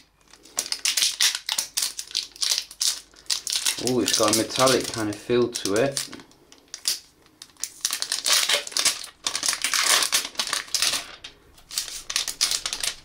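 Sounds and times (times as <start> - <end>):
plastic film crinkling: 0.2 - 13.0.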